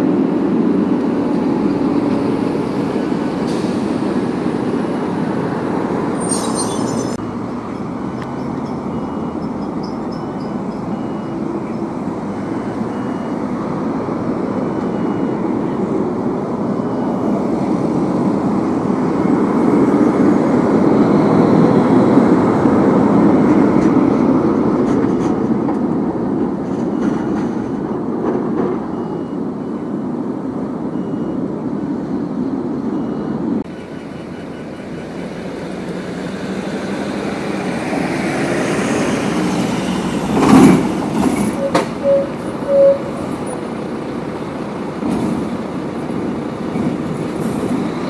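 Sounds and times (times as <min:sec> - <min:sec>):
electric tram passing: 0:00.0 - 0:48.0.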